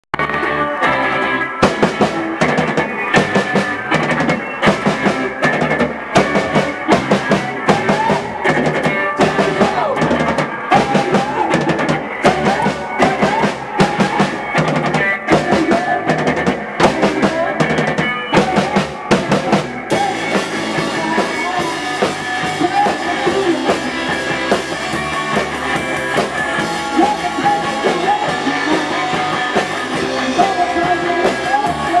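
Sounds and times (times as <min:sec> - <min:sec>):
bass guitar: 0:00.1 - 0:32.0
electric guitar: 0:00.2 - 0:32.0
drum kit steady beat: 0:01.5 - 0:32.0.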